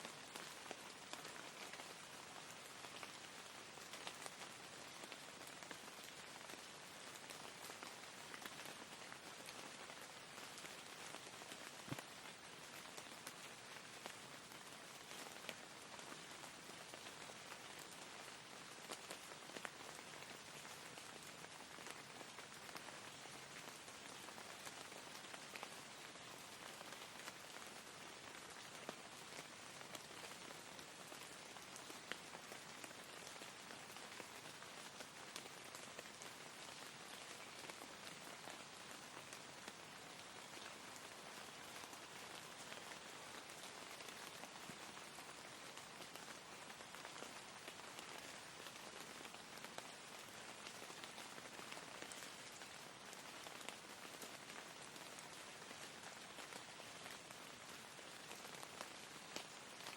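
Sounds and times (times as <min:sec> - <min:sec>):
soft rain hiss: 0:00.0 - 0:59.9.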